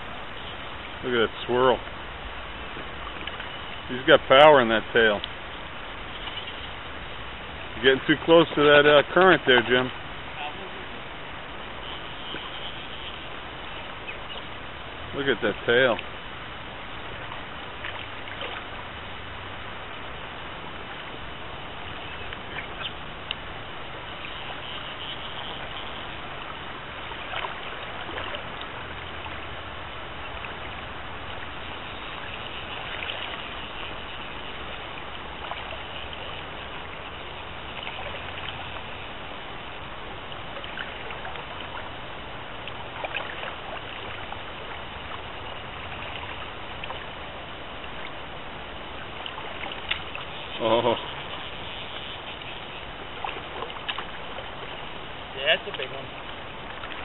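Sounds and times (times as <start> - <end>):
river current rippling: 0.0 - 57.0
short water splashes: 0.0 - 57.0.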